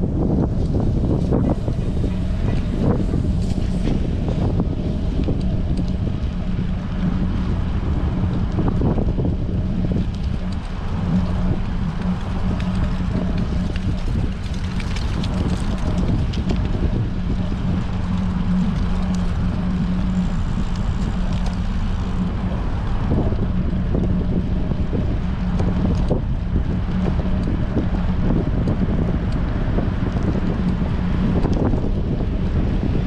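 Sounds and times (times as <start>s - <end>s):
low hum: 0.0s - 33.0s
wind buffeting microphone: 0.0s - 33.0s.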